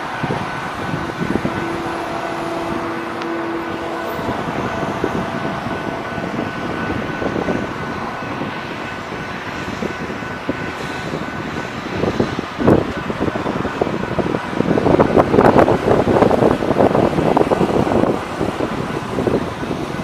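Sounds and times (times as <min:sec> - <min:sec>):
held tones: 0:00.0 - 0:19.2
track machine engine drone: 0:00.0 - 0:20.0.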